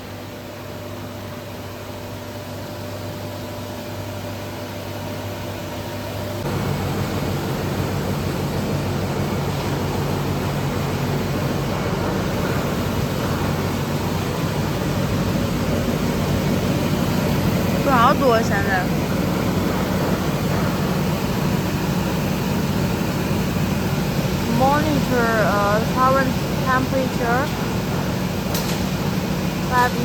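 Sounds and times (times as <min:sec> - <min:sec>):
gas burners and air blower: 0:00.0 - 0:30.0
low steady hum: 0:00.0 - 0:30.0.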